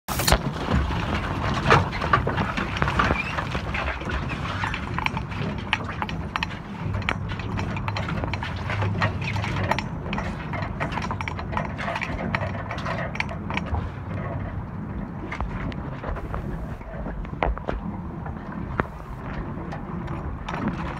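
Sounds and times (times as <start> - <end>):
clicks and knocks of reel: 0.2 - 17.7, 18.7 - 20.9.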